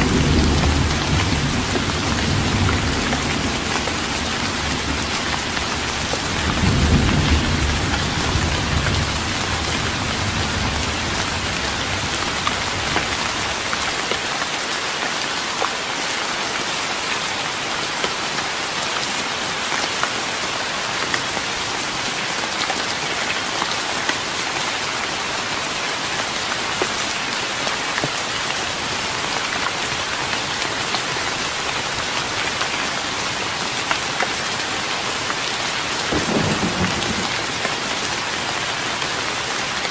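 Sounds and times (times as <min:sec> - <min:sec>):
rain pattering on wooden deck: 0:00.0 - 0:39.9.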